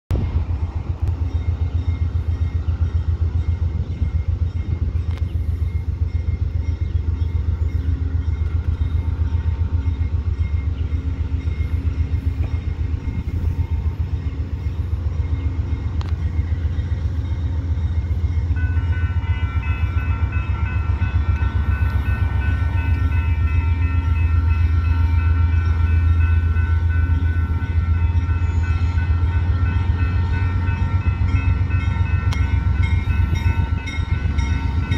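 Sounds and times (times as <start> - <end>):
crossing warning bell ringing: 0.1 - 34.9
diesel train rumbling: 0.1 - 34.9.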